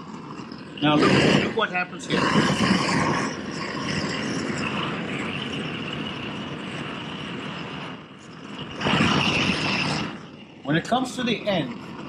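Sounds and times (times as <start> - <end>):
roofing torch flame rushing: 0.0 - 12.0.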